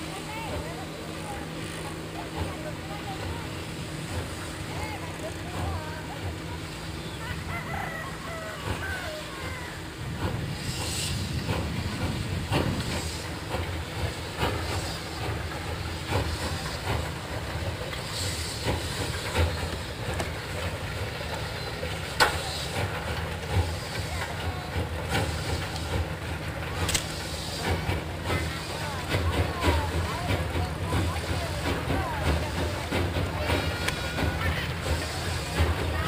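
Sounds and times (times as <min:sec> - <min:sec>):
steam hissing: 0:00.0 - 0:36.0
steam locomotive rumble: 0:00.0 - 0:36.0.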